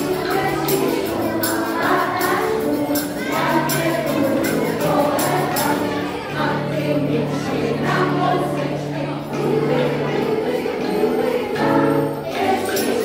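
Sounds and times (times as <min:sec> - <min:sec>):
jingling hand percussion: 0:00.0 - 0:08.8, 0:09.4 - 0:13.0
group singing a carol: 0:00.0 - 0:13.0.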